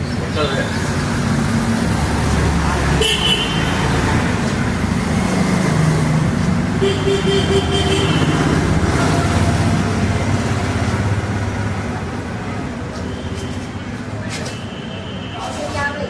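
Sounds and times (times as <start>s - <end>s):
vehicle engines running: 0.0s - 14.6s
road noise: 0.0s - 16.0s.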